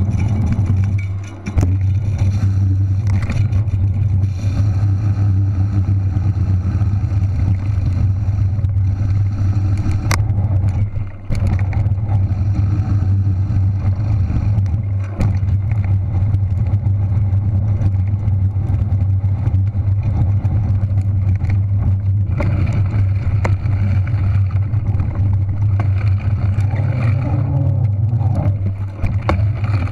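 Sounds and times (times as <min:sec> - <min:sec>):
wind and tyre rumble: 0:00.0 - 0:29.9.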